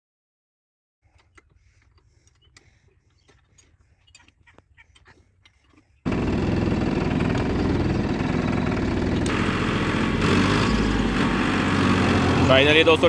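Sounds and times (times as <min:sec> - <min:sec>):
tractor diesel engine running: 0:01.2 - 0:13.0.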